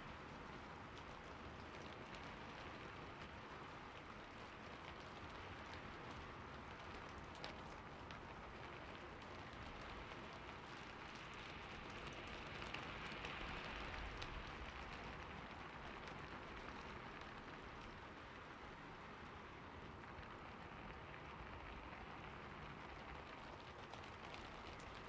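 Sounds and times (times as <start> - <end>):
rain falling on a roof: 0.0 - 25.0.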